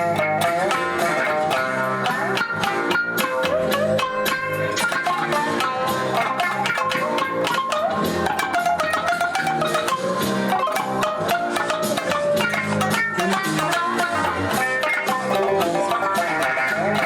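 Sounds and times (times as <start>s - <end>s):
shamisen fast plucked notes: 0.0s - 17.0s.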